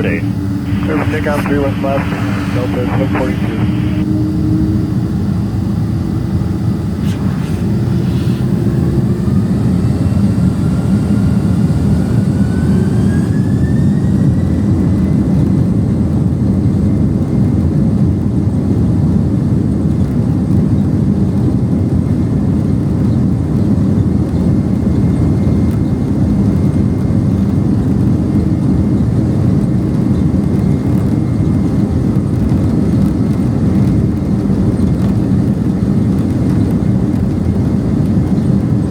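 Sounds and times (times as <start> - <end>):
deep engine rumble: 0.0 - 38.9
jet engine whine climbing: 0.0 - 38.9.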